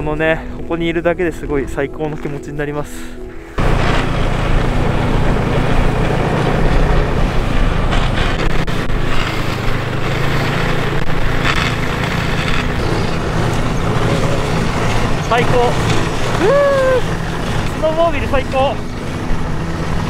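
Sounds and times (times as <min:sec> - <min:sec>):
snowmobile engine humming: 0:01.4 - 0:20.0.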